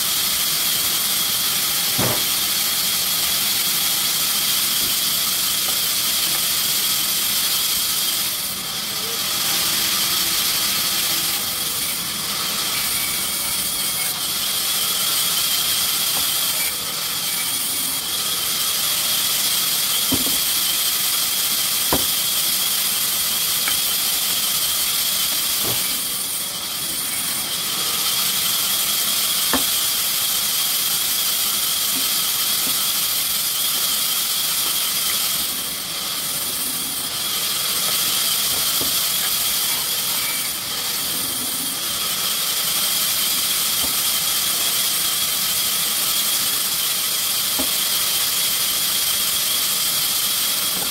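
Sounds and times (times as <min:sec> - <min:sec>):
sawmill machinery hiss: 0:00.0 - 0:50.9.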